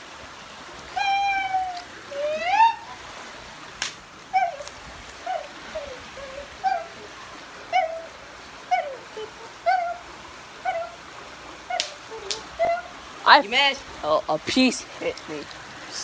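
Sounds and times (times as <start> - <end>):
stream trickling: 0.0 - 16.0.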